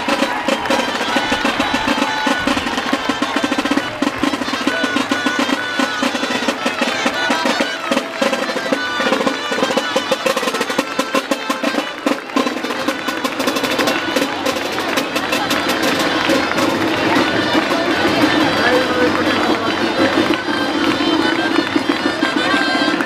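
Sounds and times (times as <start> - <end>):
drums beating: 0.0 - 23.0
shawms playing dance tune: 0.0 - 23.0.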